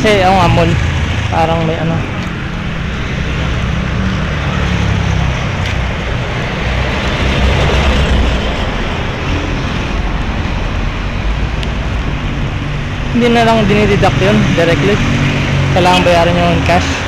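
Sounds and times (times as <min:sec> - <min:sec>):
engine rumble and road noise: 0:00.0 - 0:17.0.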